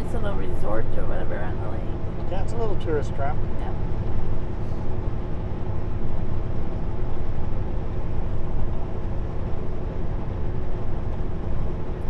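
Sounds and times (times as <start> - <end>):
diesel engine drone: 0.0 - 12.0
road noise: 0.0 - 12.0.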